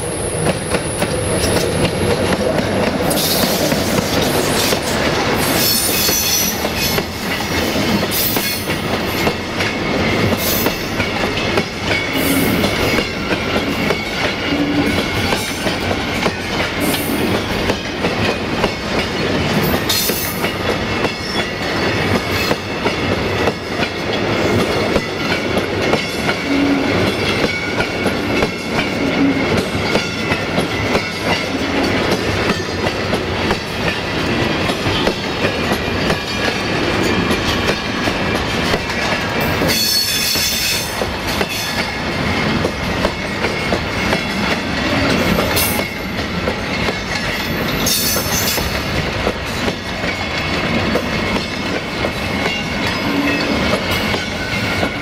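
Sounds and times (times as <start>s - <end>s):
train wheels clattering over rail joints: 0.4s - 55.0s.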